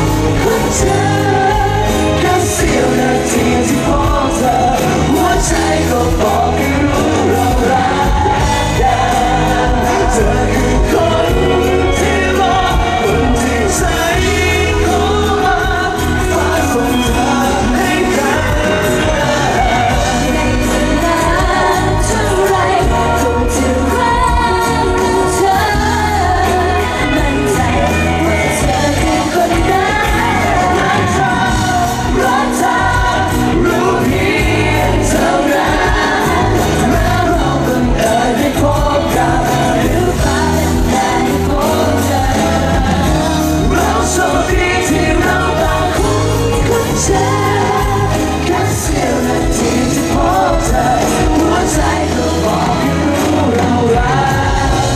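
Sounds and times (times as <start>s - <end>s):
live pop song with singers and band: 0.0s - 54.9s.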